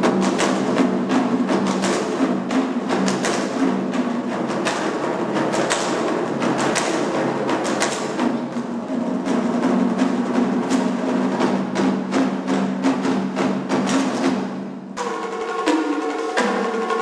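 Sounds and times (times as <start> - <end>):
quick dense drum strokes: 0.0 - 17.0.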